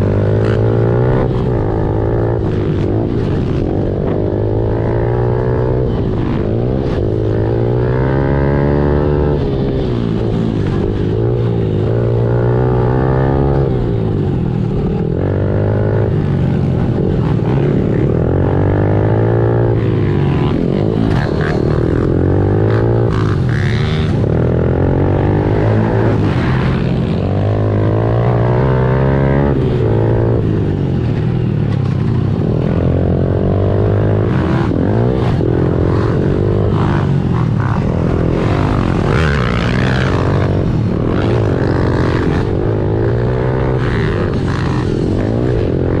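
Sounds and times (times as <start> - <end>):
motorbike engine revving: 0.0 - 46.0.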